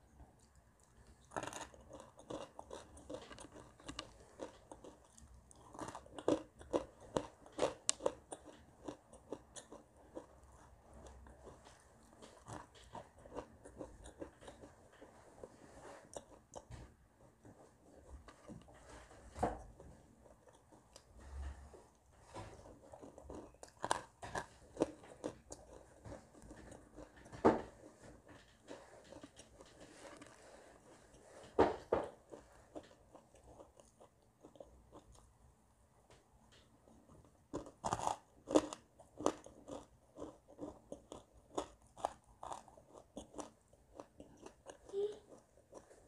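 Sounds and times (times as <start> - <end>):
crunching and chewing clay: 0.0 - 35.4, 36.1 - 46.0.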